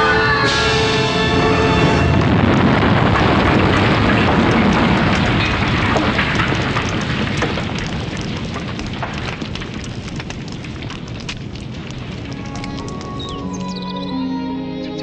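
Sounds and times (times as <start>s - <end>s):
large fire crackling: 0.0s - 14.2s.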